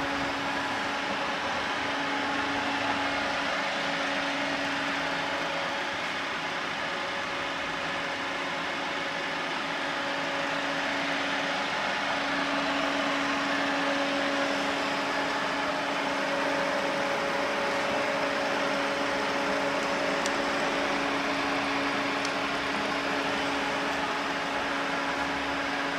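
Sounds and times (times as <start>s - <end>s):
milling machine motor humming: 0.0s - 25.9s.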